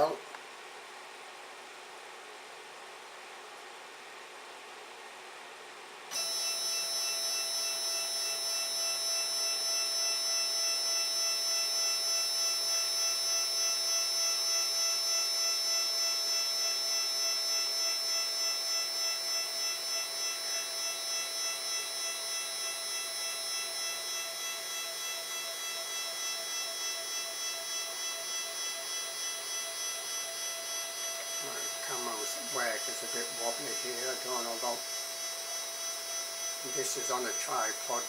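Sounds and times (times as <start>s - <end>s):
stepper motors whining: 6.1s - 38.0s.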